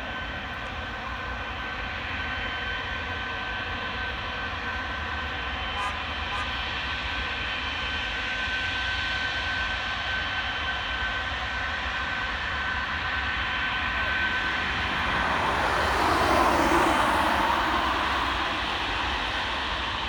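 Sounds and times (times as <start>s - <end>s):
aircraft engine noise passing: 0.0s - 20.0s
jet engines high whine: 0.0s - 20.0s.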